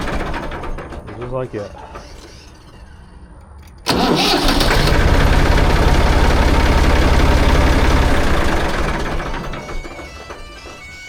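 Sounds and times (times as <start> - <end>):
tractor diesel engine running: 0.0 - 2.3, 3.8 - 11.0.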